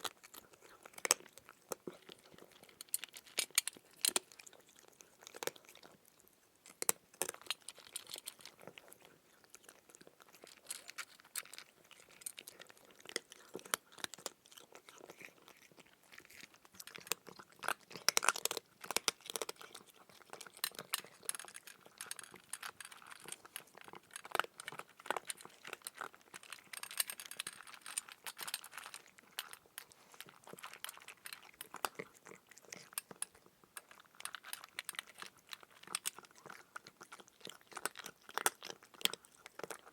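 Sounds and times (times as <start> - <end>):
crunching crisp food: 0.0 - 39.9.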